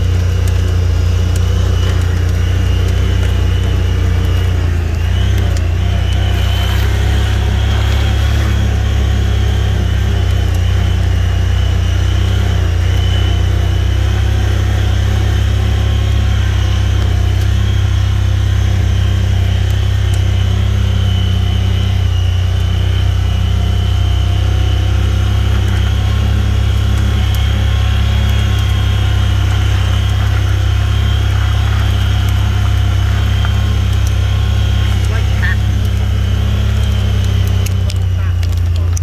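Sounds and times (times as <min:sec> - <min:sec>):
faint high whine: 0:00.0 - 0:39.0
vehicle engine and road noise: 0:00.0 - 0:39.0.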